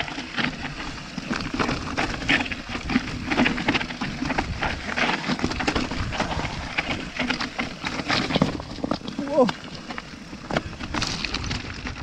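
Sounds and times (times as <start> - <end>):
bike rattling: 0.0 - 12.0
tyres rolling over loose stones: 0.0 - 12.0.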